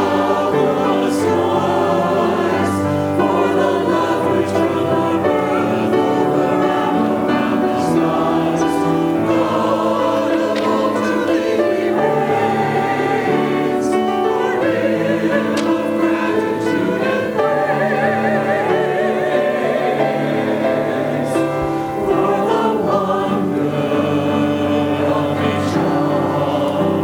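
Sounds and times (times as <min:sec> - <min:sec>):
choir singing: 0:00.0 - 0:27.0.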